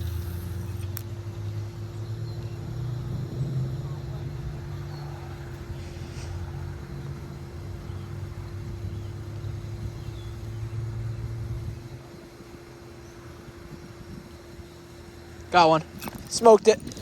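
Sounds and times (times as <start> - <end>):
low motor-like rumble: 0.0 - 17.0
steady hum: 0.0 - 17.0.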